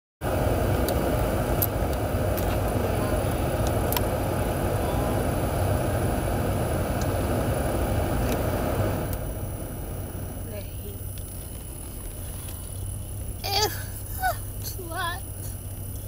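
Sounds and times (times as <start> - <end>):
car interior engine rumble: 0.2 - 16.0.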